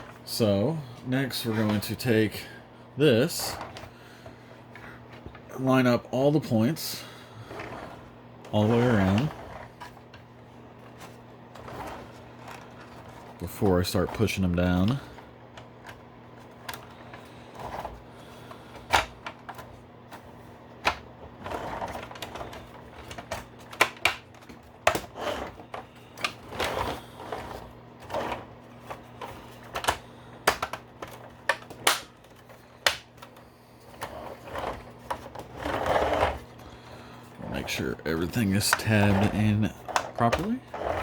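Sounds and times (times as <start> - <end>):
plastic rubbing and handling: 0.0 - 41.0.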